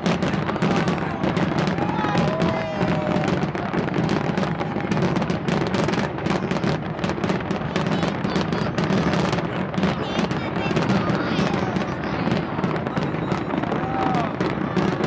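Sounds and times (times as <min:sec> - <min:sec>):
firework whistling: 0:00.0 - 0:15.0
fireworks crackling and banging: 0:00.0 - 0:15.0.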